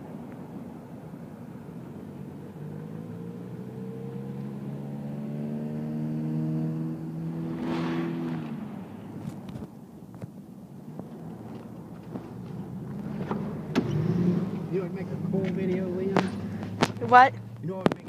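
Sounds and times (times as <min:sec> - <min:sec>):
vehicles crossing railroad crossing: 0:00.0 - 0:18.0
car engine accelerating: 0:01.1 - 0:10.2, 0:10.8 - 0:18.0.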